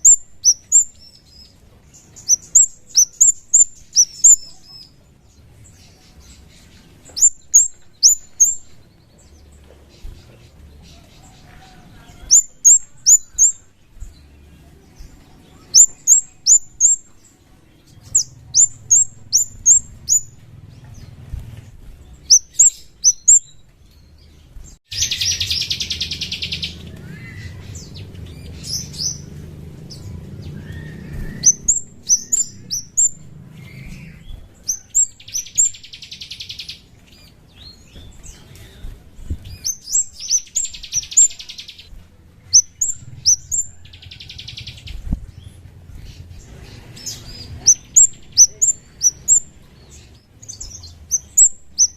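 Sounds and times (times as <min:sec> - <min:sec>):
buzzy rattling bird trill: 0:00.0 - 0:24.2, 0:24.8 - 0:38.4, 0:39.5 - 0:51.9
songbird chirps: 0:00.0 - 0:51.9.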